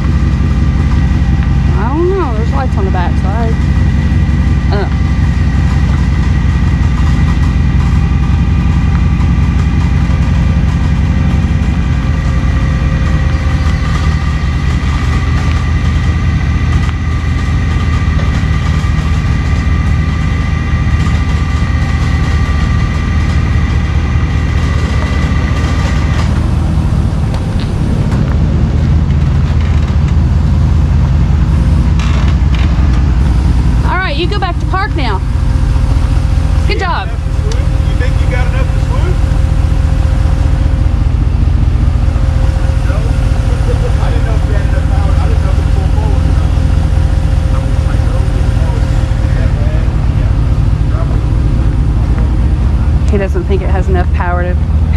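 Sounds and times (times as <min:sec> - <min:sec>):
high winch whine: 0:00.0 - 0:54.9
truck engine running under load: 0:00.0 - 0:54.9.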